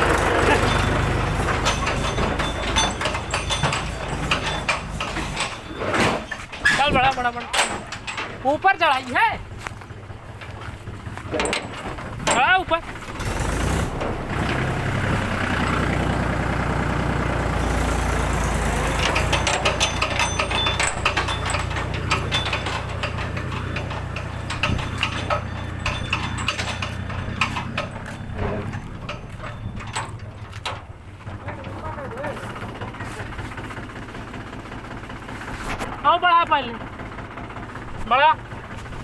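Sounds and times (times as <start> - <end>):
clattering and rattling: 0.0 - 39.0
tractor engine under load: 0.0 - 39.0.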